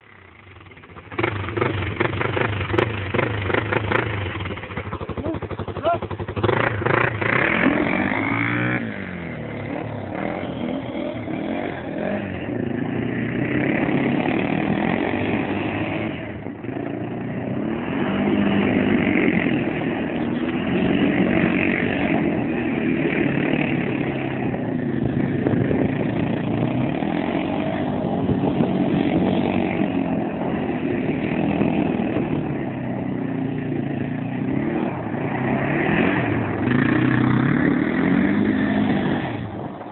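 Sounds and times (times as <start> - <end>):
quad engine revving: 0.8 - 39.9.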